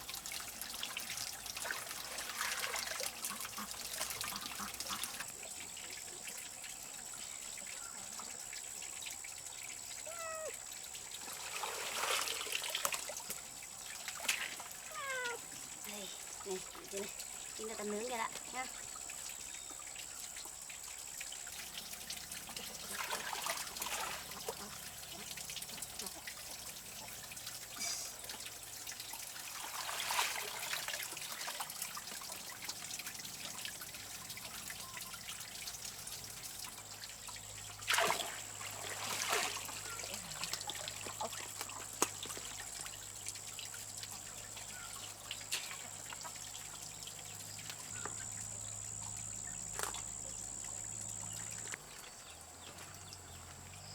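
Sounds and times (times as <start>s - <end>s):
water trickling: 0.0s - 53.9s.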